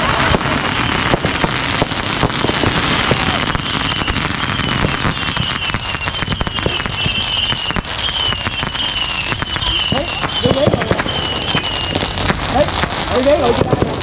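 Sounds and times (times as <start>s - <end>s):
fireworks cracking and popping: 0.0s - 14.0s
fireworks whistling: 0.0s - 14.0s.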